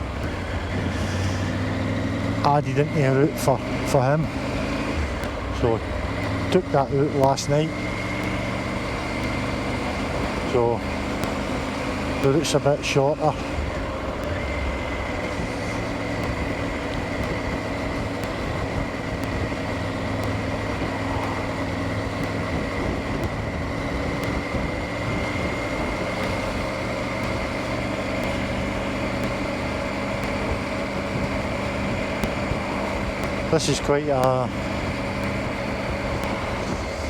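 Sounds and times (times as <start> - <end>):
motorcycle engine cruising: 0.0 - 37.0
wind and road noise: 0.0 - 37.0.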